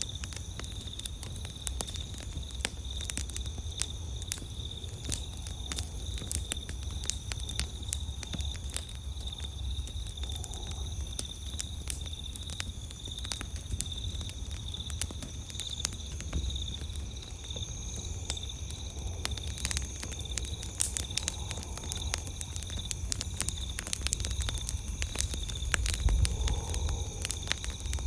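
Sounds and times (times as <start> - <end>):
campfire crackling and popping: 0.0 - 28.0
night insects trilling: 0.0 - 28.0.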